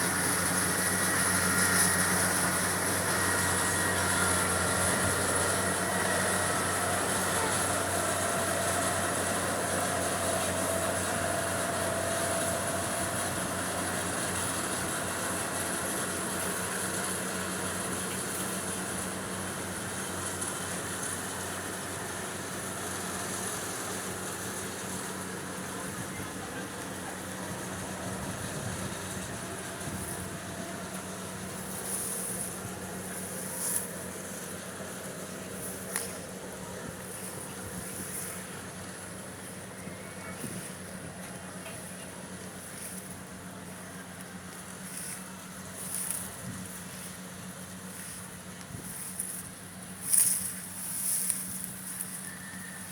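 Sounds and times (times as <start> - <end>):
harvester engine running: 0.0 - 52.9.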